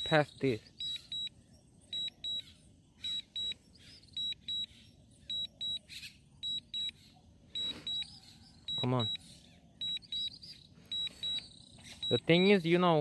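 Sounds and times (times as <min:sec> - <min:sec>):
high double beep alarm: 0:00.7 - 0:13.0.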